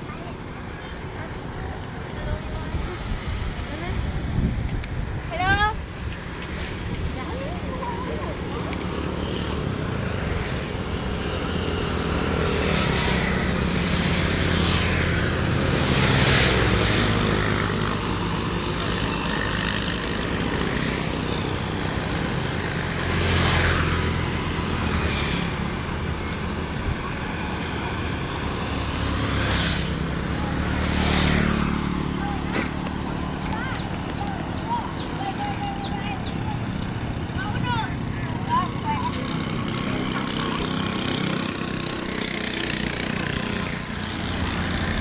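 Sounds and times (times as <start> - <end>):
motorbike running: 0.0 - 45.0
vehicles passing by: 0.0 - 45.0.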